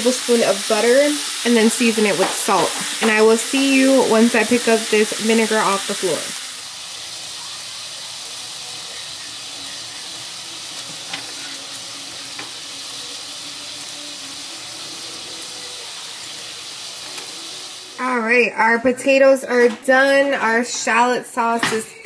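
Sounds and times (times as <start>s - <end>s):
sauce sizzling in a skillet: 0.0s - 19.2s.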